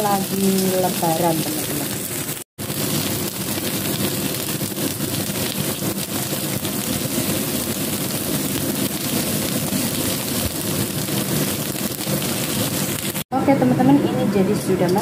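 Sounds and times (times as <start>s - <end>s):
radish cake sizzling in a pan: 0.0s - 13.3s.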